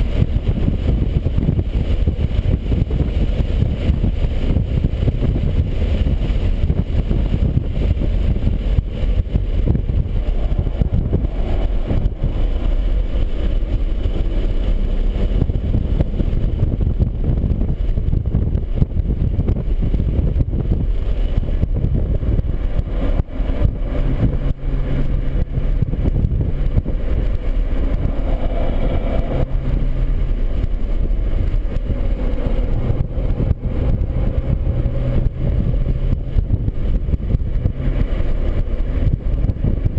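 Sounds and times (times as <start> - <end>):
car engine running: 0.0 - 39.9
road noise: 0.0 - 39.9
wind noise: 0.0 - 39.9.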